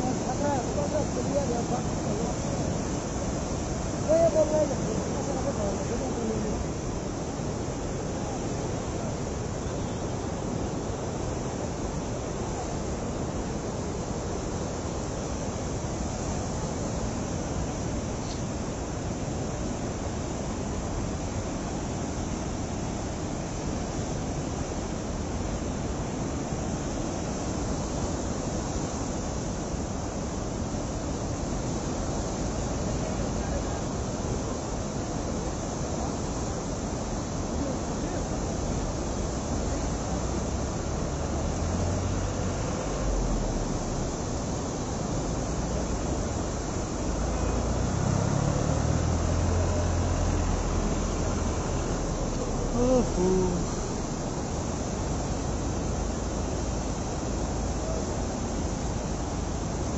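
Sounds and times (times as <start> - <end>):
river torrent rushing: 0.0 - 59.9.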